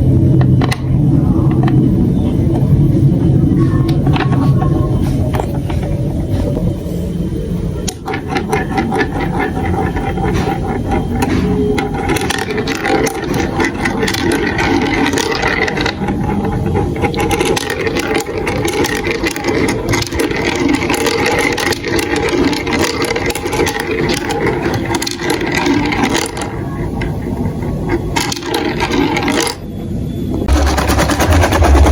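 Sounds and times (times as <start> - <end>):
marbles rolling and clattering: 0.0 - 29.7.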